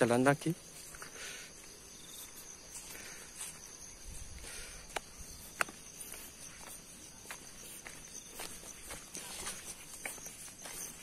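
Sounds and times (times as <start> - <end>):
high-pitched insect chorus: 0.0 - 11.0
footsteps on dirt and stone: 0.6 - 11.0.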